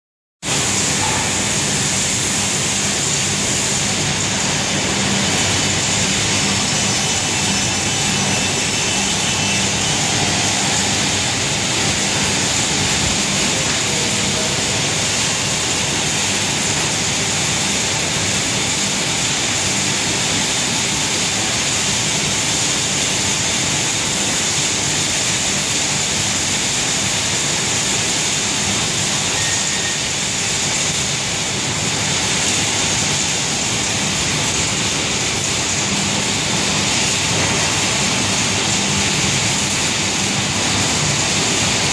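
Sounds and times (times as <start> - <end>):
industrial fans roaring: 0.4 - 41.9.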